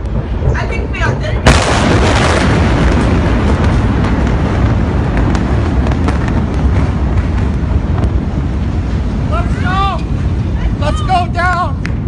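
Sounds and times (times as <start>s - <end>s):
faint crackles and pops: 0.0s - 10.9s
deep rolling rumble: 0.0s - 12.0s.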